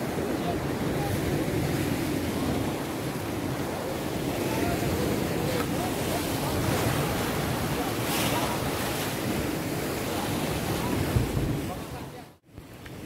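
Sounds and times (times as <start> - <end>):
surf breaking against rocks: 0.0 - 12.2.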